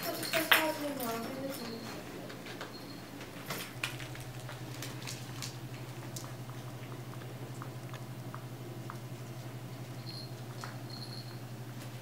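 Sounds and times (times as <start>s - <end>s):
puppy claws clicking on floor: 0.0s - 2.7s, 3.5s - 12.0s
steady low hum: 0.0s - 12.0s.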